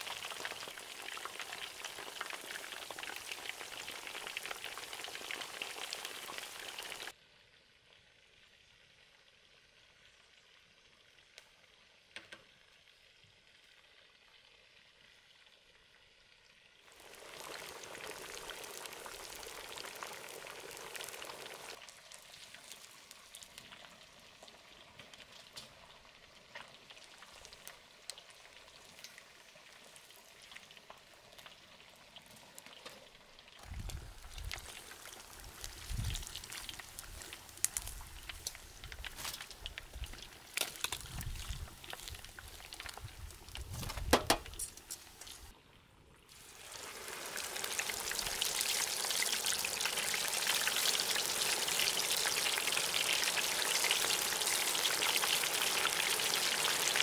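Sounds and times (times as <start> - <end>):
oil bubbling and sizzling: 0.0 - 57.0.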